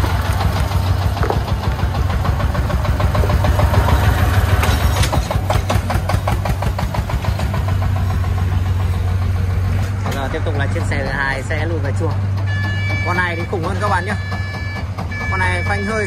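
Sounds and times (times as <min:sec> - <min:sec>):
diesel engine knocking: 0:00.0 - 0:16.0.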